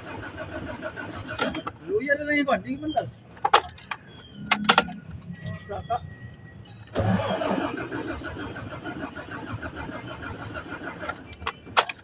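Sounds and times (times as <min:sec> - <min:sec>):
diesel engine starter cranking: 0:00.0 - 0:01.8, 0:03.4 - 0:12.0.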